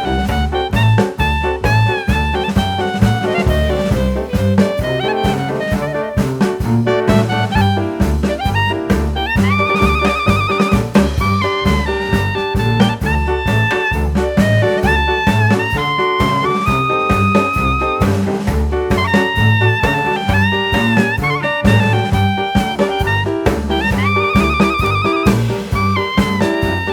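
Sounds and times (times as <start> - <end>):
upbeat jazz music: 0.0 - 26.9.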